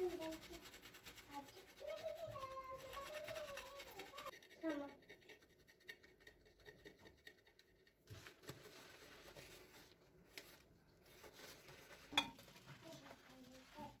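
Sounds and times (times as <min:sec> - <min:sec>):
objects scraping and tapping: 0:00.0 - 0:14.0.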